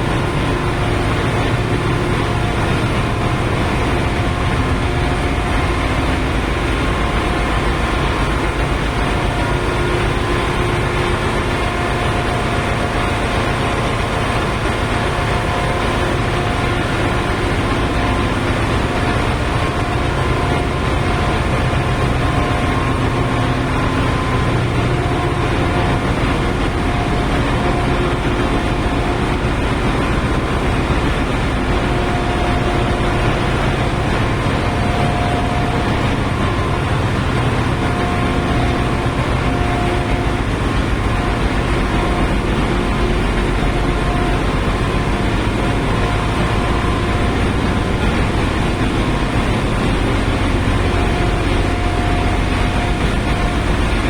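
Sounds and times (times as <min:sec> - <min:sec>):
engine room machinery drone: 0:00.0 - 0:54.0
faint machinery whine: 0:00.0 - 0:54.0.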